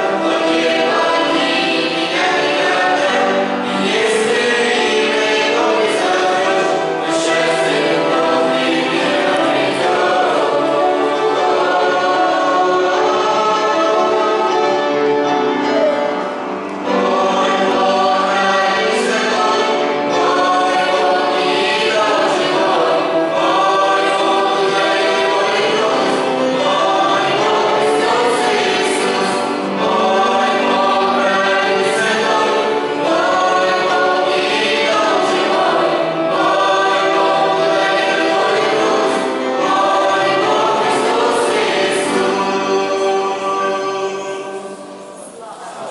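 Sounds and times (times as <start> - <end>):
youth choir singing: 0.0 - 45.9.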